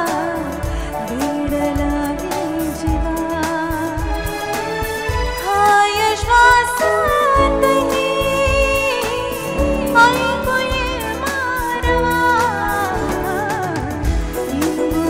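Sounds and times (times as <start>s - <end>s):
woman singing into microphone: 0.0s - 4.8s, 5.4s - 15.0s
band accompaniment: 0.0s - 15.0s
steady percussion beat: 0.0s - 15.0s.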